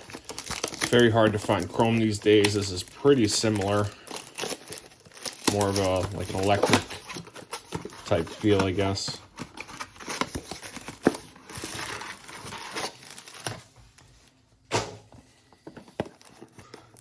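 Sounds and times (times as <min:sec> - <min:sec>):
plastic wrap crinkling and tearing: 0:00.0 - 0:14.3.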